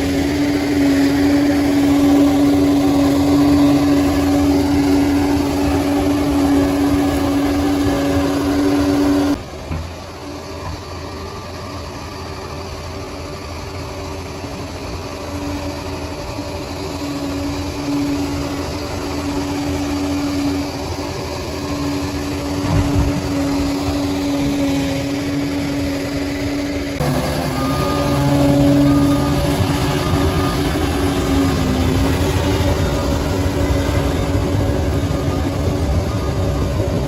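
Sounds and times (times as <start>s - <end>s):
bulldozer engine rumbling: 0.0s - 37.0s.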